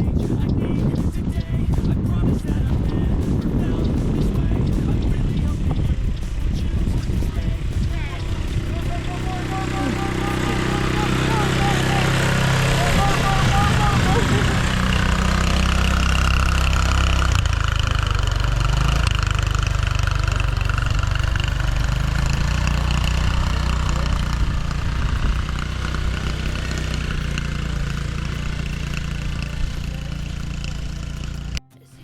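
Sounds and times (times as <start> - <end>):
atv engine running: 0.0 - 31.7.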